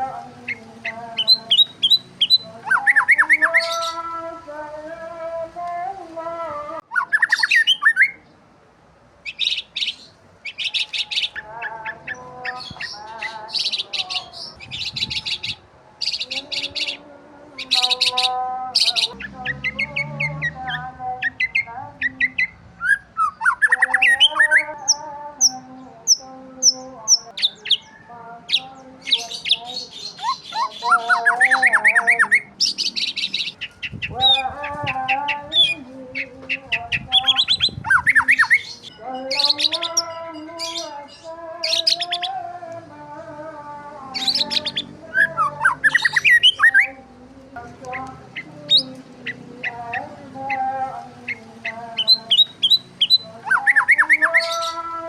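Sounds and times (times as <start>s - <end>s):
birds squawking: 0.0s - 4.2s, 6.8s - 8.2s, 9.2s - 42.4s, 44.1s - 47.0s, 47.6s - 55.0s
birds chirping and trilling: 0.0s - 5.8s, 6.8s - 8.4s, 9.2s - 55.0s.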